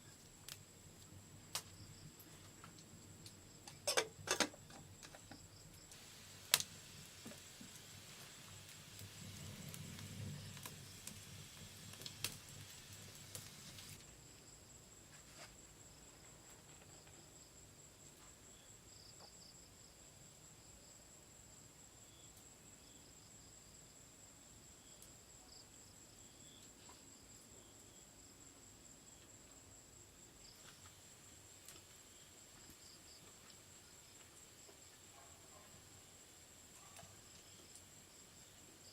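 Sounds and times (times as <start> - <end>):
insect chirps: 0.0 - 38.9
insects droning: 0.0 - 38.9.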